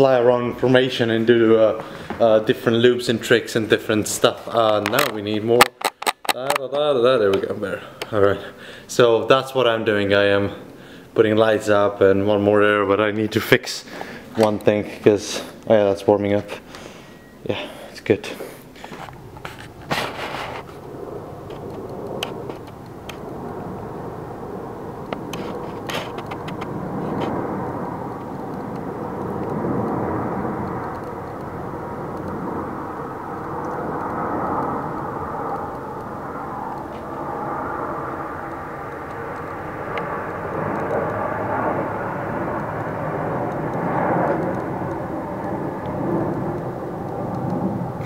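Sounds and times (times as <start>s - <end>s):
jets roaring overhead: 0.0s - 48.0s.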